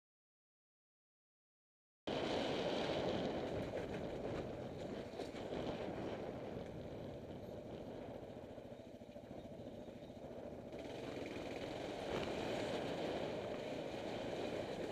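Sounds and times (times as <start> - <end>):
motorcycle engine running: 2.1 - 14.9.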